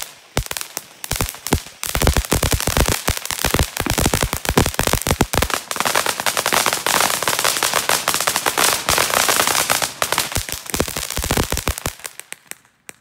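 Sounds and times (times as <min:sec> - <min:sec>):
firework crackling and hissing: 0:00.0 - 0:13.0.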